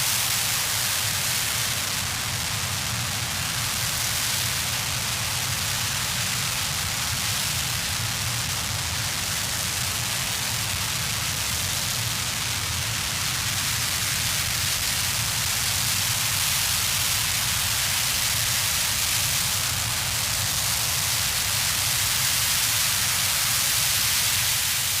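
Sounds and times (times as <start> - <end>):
rocket engine hissing and rumbling: 0.0 - 25.0.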